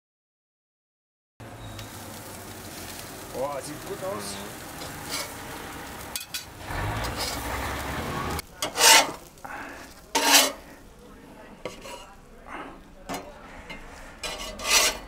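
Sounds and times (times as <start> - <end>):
food sizzling on grill: 1.4 - 15.0
metal spatula scraping grill grate: 1.6 - 15.0.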